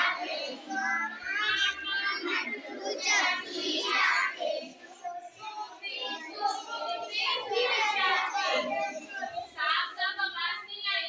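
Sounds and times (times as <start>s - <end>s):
children singing a rhyme: 0.0s - 10.8s.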